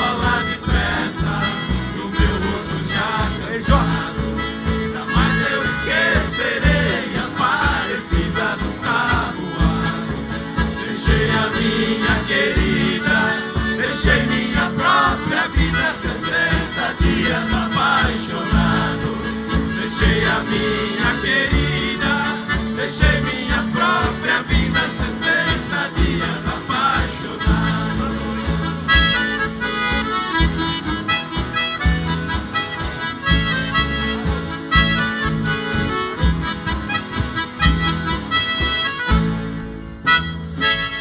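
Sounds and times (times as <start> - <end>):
bass beat: 0.0 - 41.0
harmonica: 0.0 - 41.0
live country band playing: 0.0 - 41.0.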